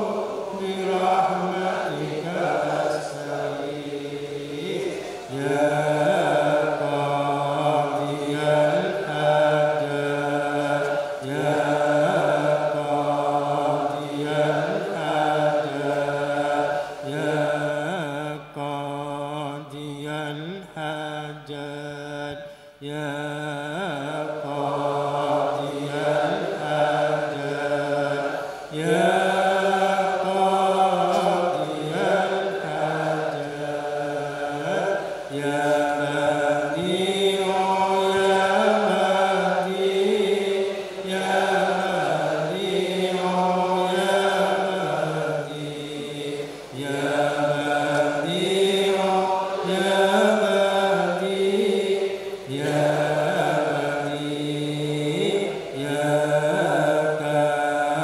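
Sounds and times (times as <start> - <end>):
voices chanting: 0.0 - 58.0.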